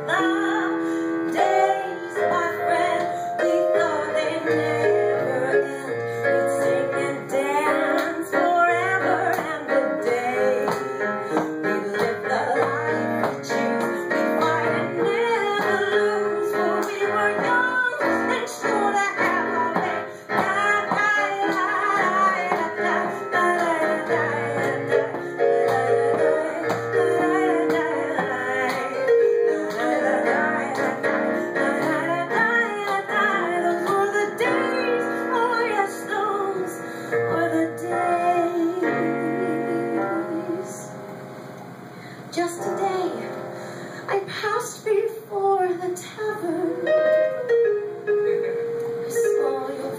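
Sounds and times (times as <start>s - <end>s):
woman singing into a microphone: 0.0s - 40.9s, 42.3s - 43.4s, 44.0s - 47.1s, 49.1s - 49.9s
electronic keyboard: 0.0s - 44.1s, 46.5s - 49.9s.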